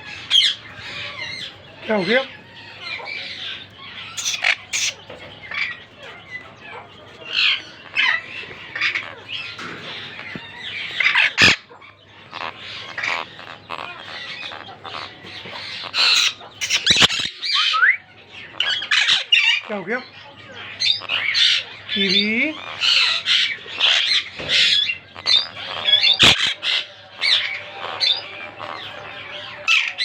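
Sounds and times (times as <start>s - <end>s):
parakeets squawking: 0.0s - 30.0s.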